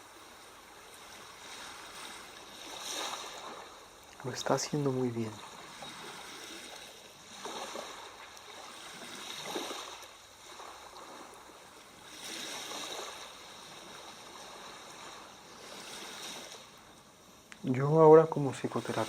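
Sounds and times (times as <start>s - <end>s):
sea waves washing onto shore: 0.0s - 19.0s.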